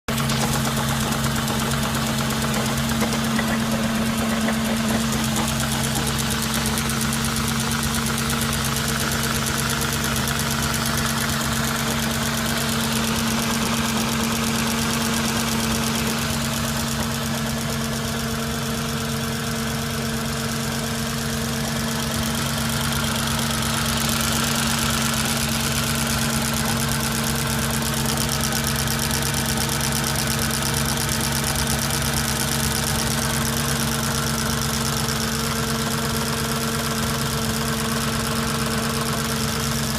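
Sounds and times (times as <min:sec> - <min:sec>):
car engine idling with knocking: 0:00.0 - 0:39.9.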